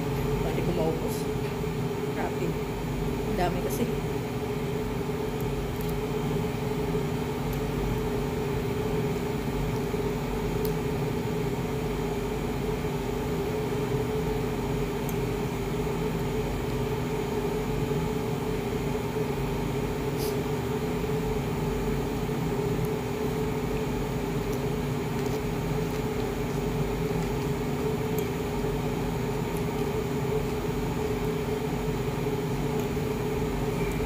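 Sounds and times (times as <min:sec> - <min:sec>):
household appliance humming: 0:00.0 - 0:34.0.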